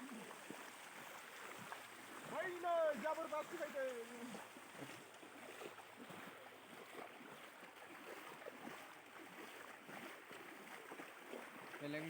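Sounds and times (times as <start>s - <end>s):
floodwater rushing: 0.0s - 12.0s
water gurgling and splashing: 0.0s - 12.0s.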